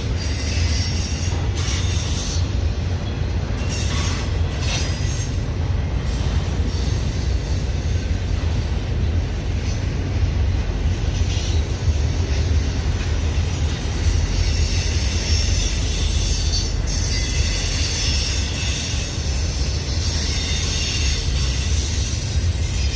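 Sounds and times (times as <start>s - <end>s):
freight train wheels rumbling: 0.0s - 22.9s.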